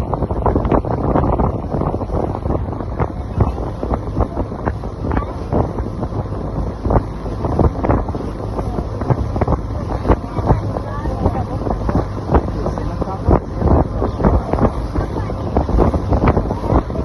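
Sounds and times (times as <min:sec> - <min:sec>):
speedboat engine: 0:00.0 - 0:17.0
water noise: 0:00.0 - 0:17.0
wind buffeting microphone: 0:00.0 - 0:17.0.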